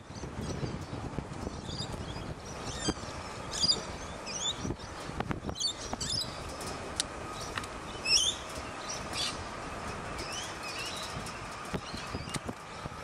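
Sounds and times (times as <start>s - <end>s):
birds chirping: 0.0s - 13.0s
distant diesel train: 0.0s - 13.0s.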